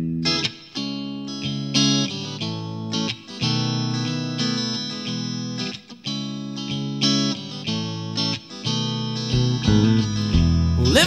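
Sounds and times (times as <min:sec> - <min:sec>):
country band with guitar: 0:00.0 - 0:11.0.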